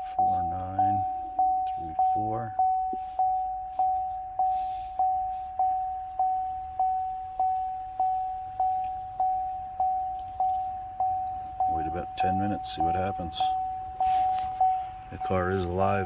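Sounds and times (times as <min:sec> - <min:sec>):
car warning chime dinging: 0:00.0 - 0:16.0.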